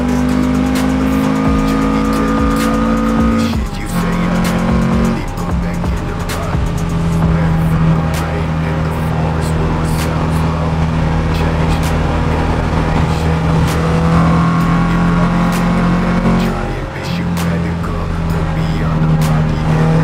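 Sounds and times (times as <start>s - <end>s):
car engine at cruising revs: 0.0s - 20.0s.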